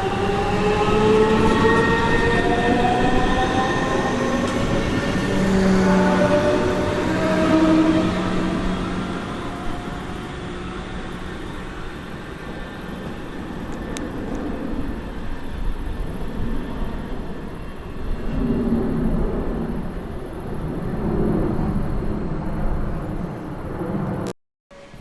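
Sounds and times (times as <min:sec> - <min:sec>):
train wheels rumbling on track: 0:00.0 - 0:24.2.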